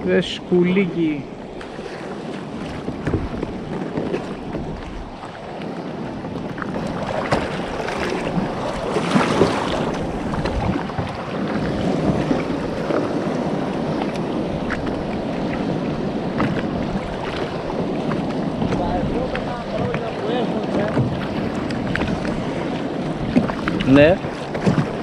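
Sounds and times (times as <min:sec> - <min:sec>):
waves lapping against kayak hull: 0:00.0 - 0:25.0
wind buffeting microphone: 0:00.0 - 0:25.0.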